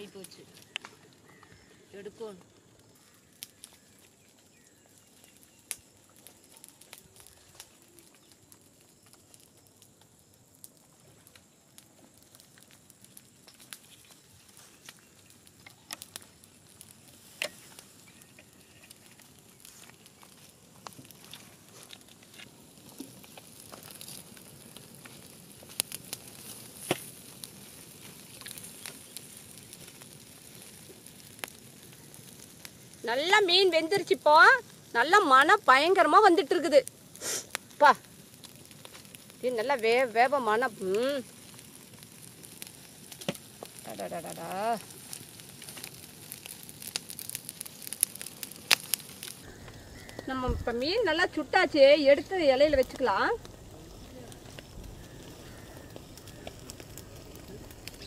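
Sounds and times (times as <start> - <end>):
faint sizzle: 0.0 - 58.0
wood fire crackling and popping: 0.0 - 58.0.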